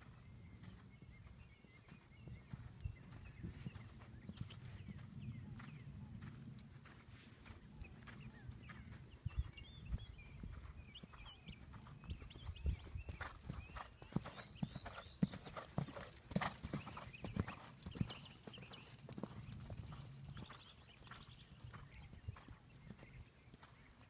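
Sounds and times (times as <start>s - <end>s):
horse hoofbeats on sand: 1.9s - 24.0s.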